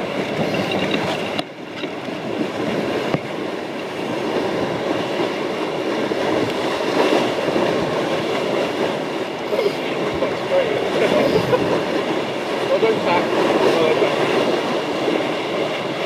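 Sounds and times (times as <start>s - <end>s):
water rushing along hull: 0.0s - 16.0s
wind on microphone: 0.0s - 16.0s.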